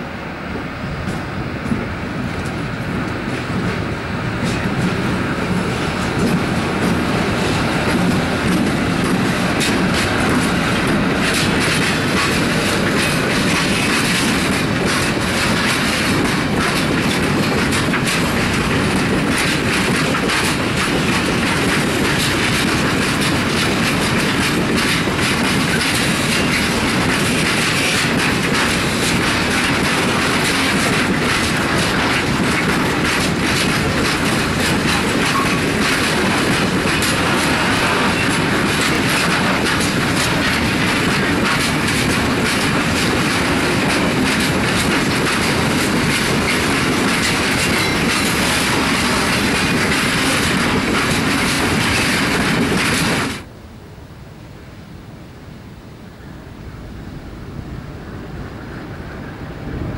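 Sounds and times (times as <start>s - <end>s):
train wheels clattering over rail joints: 1.0s - 53.5s.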